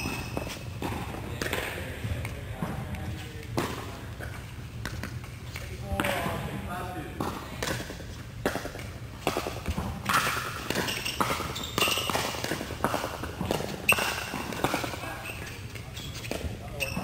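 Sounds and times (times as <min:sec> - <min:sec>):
paddles hitting plastic ball: 0:00.0 - 0:06.4, 0:07.2 - 0:17.0.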